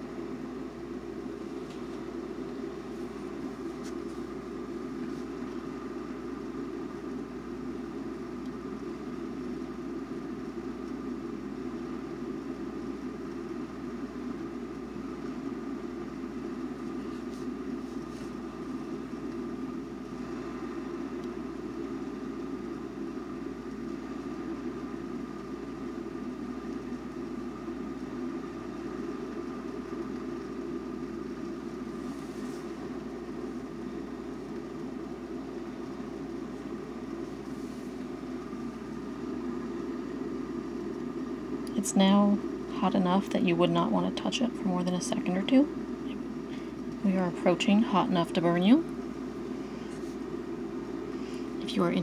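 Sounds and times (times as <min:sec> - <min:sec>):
faint steady whine: 0:00.0 - 0:52.0.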